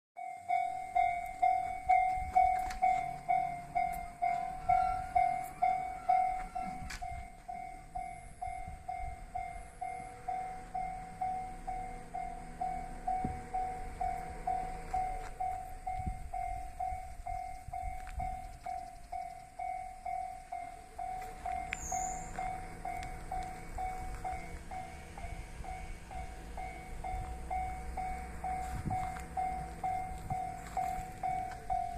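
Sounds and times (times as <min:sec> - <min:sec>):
level crossing warning bell ringing: 0:00.2 - 0:31.9
low rumble: 0:00.6 - 0:31.9.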